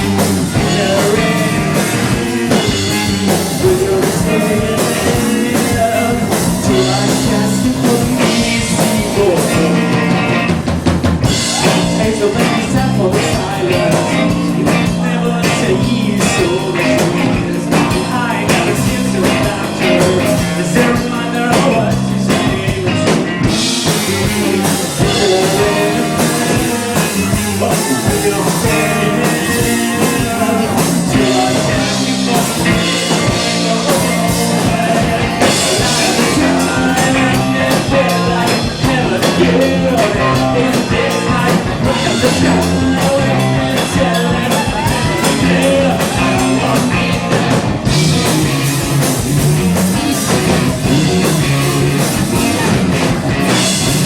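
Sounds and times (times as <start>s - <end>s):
person singing: 0.0s - 10.5s, 11.2s - 54.0s
bass guitar: 0.0s - 54.0s
drum kit: 0.0s - 54.0s
electric guitars: 0.0s - 54.0s.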